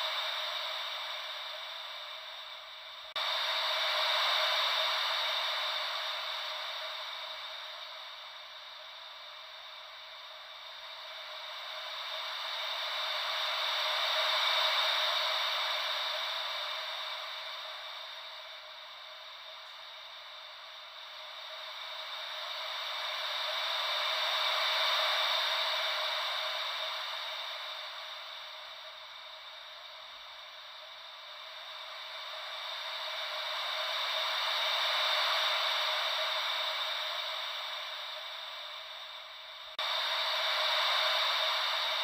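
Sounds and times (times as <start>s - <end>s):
ocean wave white noise: 0.0s - 42.0s.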